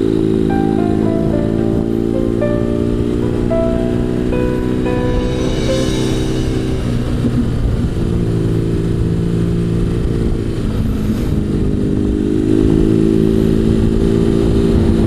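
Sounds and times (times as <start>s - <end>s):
road rumble: 0.0s - 15.0s
wind: 0.0s - 15.0s.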